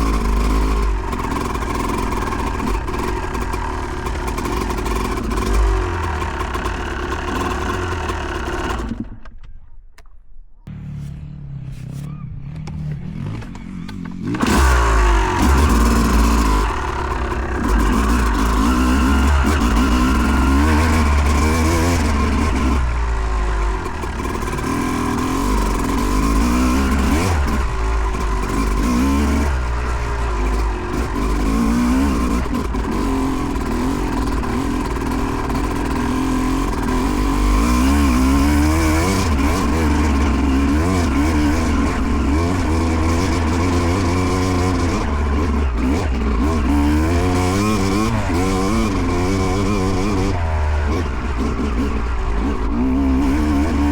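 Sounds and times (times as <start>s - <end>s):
dirt bike engine revving: 0.0s - 9.2s, 10.7s - 53.9s.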